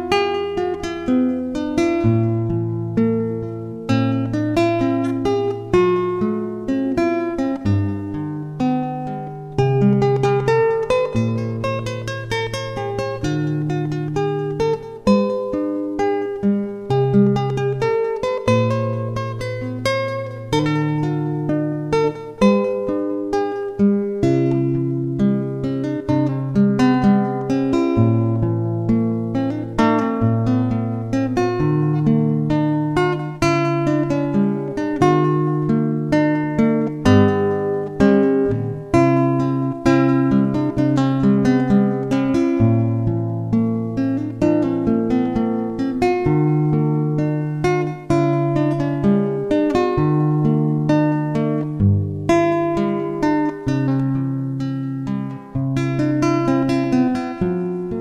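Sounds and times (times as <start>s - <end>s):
plucked guitar picking pattern: 0.0s - 58.0s.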